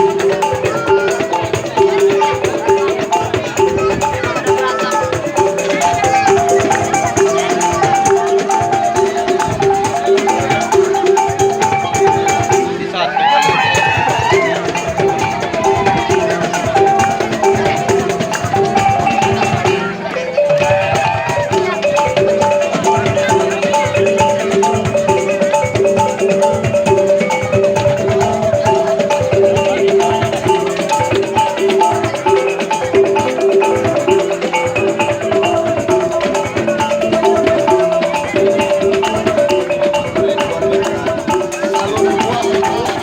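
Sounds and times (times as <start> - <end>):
fast melody of struck pitched notes: 0.0 - 43.0
rattling and drummed percussion: 0.0 - 43.0.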